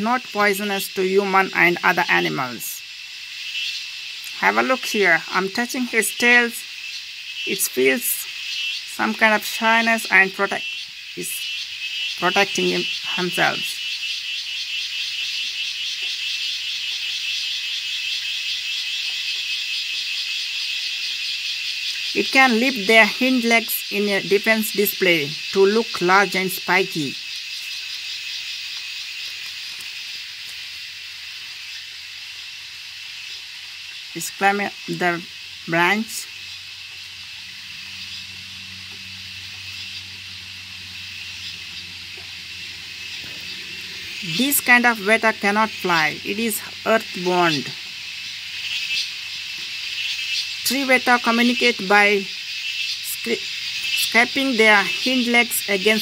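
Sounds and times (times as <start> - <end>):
insect chorus trilling: 0.0 - 56.0
steady high hiss: 0.0 - 56.0.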